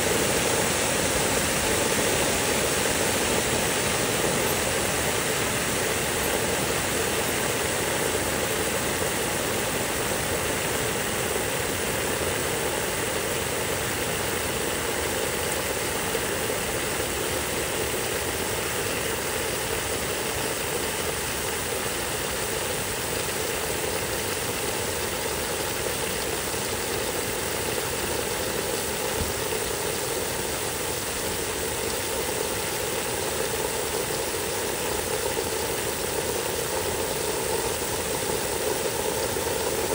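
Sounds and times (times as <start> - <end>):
water spray hitting wet mulch: 0.0 - 39.9.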